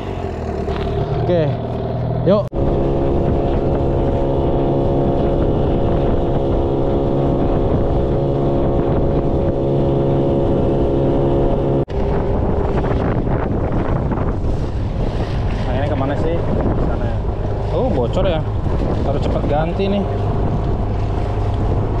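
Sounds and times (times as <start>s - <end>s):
choppy water: 0.0s - 22.0s
outboard motor running: 0.0s - 22.0s
wind: 0.0s - 22.0s.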